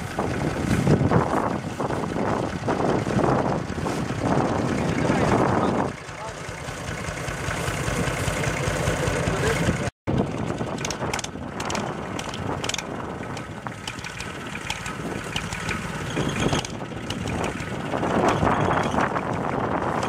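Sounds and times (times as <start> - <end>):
rattles and clatter: 0.0 - 20.0
tractor engine running: 0.0 - 20.0.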